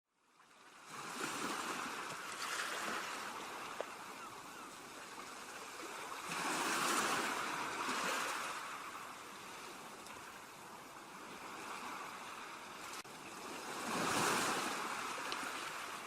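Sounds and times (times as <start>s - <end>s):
ocean waves washing onto beach: 0.5s - 16.0s.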